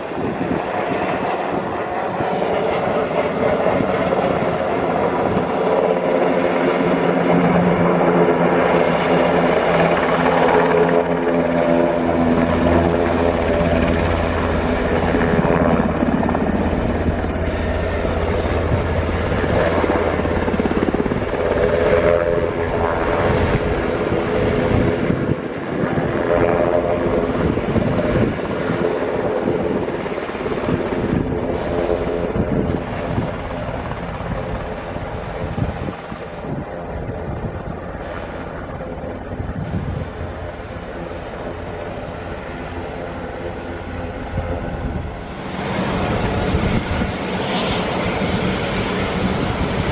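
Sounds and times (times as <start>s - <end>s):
aircraft engines droning: 0.0s - 49.9s.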